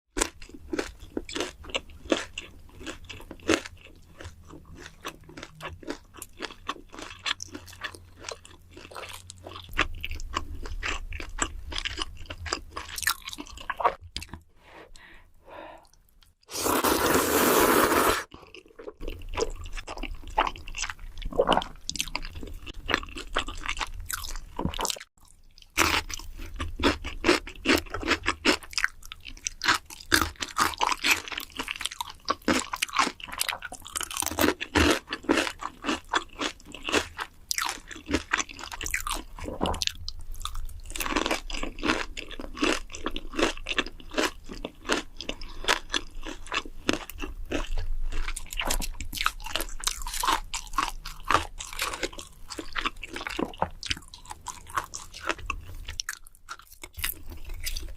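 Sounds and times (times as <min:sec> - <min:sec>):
person crunching food: 0:00.2 - 0:14.4, 0:15.8 - 0:57.9.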